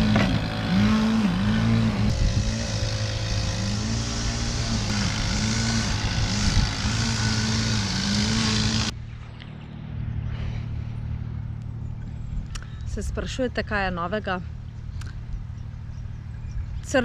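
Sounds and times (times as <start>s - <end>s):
car engine humming: 0.0s - 16.8s
low outdoor hum: 0.0s - 17.0s
wavering engine tone: 0.0s - 17.0s.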